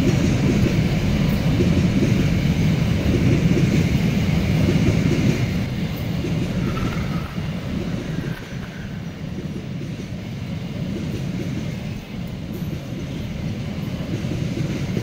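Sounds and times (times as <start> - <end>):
train wagons rumbling on rails: 0.0 - 15.0.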